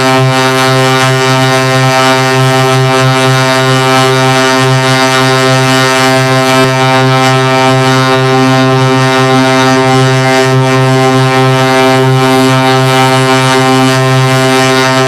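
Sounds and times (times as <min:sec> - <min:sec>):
low buzzing drone: 0:00.0 - 0:15.0.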